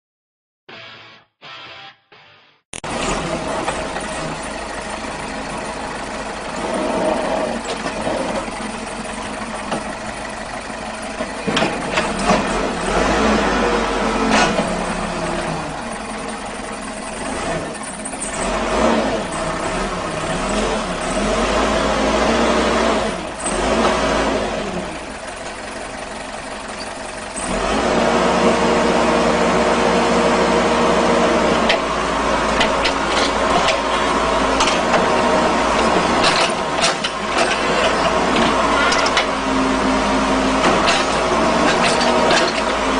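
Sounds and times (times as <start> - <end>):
excavator diesel engine revving: 2.8 - 42.9.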